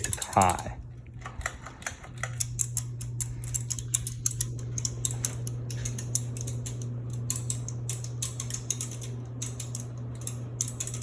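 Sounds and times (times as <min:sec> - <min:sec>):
ceiling fan motor hum: 0:00.0 - 0:11.0
rapid irregular ticking: 0:00.0 - 0:11.0.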